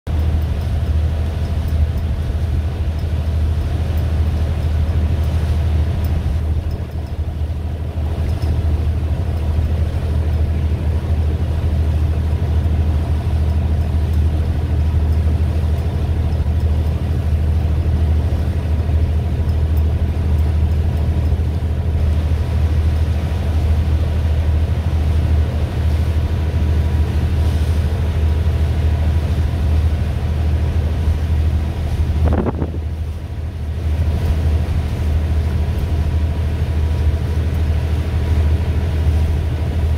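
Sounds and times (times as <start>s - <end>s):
wind: 0.0s - 39.9s
boat engine droning: 0.1s - 39.9s
water noise: 0.1s - 39.9s.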